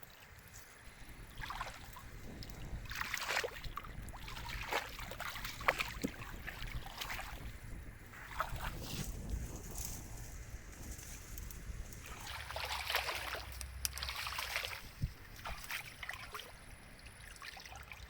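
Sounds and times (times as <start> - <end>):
water splashing and sloshing: 0.0 - 18.0
wind rumble on microphone: 0.0 - 18.0.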